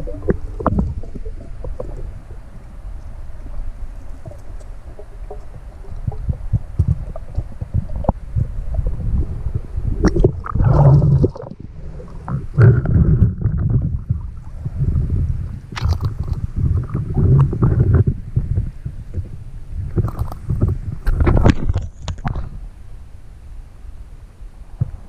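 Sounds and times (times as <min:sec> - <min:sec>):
water sloshing and gurgling: 0:00.0 - 0:22.6
muffled underwater rumble: 0:00.0 - 0:25.0.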